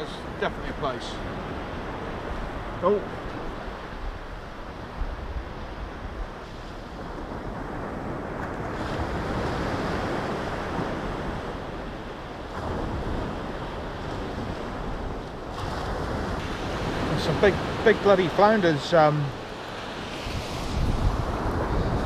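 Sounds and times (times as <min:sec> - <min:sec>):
waves breaking on beach: 0:00.0 - 0:22.0
wind rumbling on microphone: 0:00.0 - 0:22.0.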